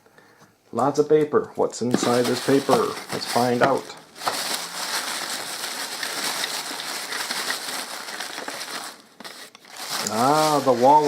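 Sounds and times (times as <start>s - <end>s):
packing paper crinkling and rustling: 1.9s - 11.0s.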